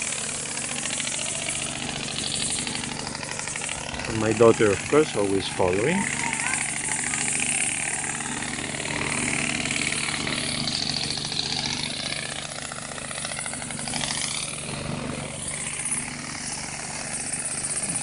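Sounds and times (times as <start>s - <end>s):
air compressor running: 0.0s - 18.0s
pneumatic shakers rattling: 0.0s - 18.0s.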